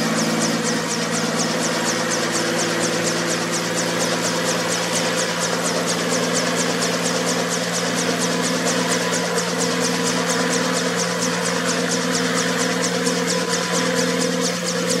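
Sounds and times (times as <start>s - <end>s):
helicopter engine drone: 0.0s - 15.0s
rotor rhythmic swish: 0.0s - 15.0s.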